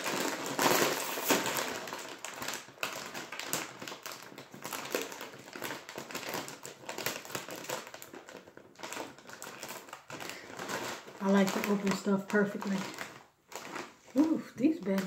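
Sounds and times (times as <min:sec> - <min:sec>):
chip bag crinkling: 0:00.0 - 0:15.0.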